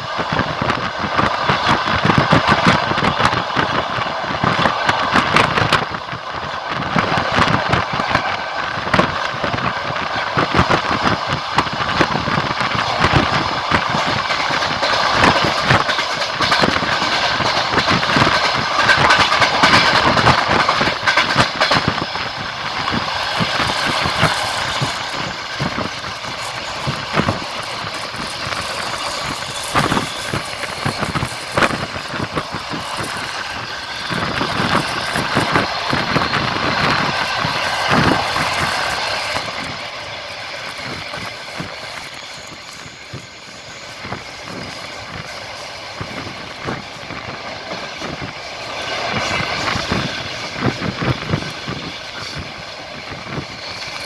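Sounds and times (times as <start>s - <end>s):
train rolling noise: 0.0s - 54.0s
wheels clicking over rail joints: 0.2s - 54.0s.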